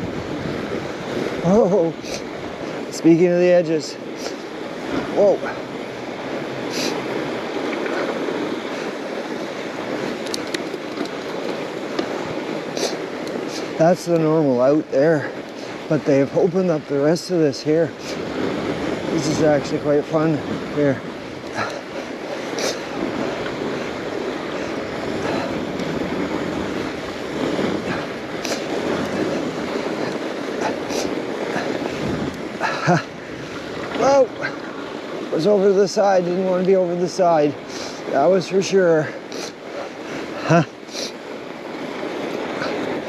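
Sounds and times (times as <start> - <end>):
bicycle tyres rolling on snow: 0.0 - 43.0
wind on microphone: 0.0 - 43.0.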